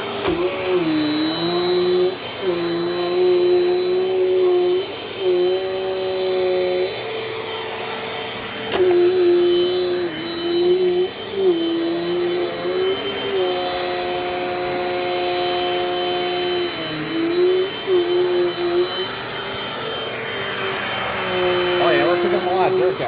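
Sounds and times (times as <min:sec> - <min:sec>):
vacuum cleaner whining: 0:00.0 - 0:23.0.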